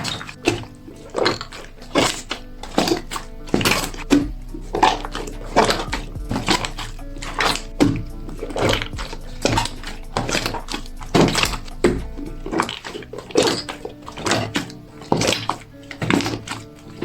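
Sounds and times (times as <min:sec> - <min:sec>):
soft background music: 0:00.0 - 0:17.0
wet slime squelches and clicks: 0:00.0 - 0:17.0.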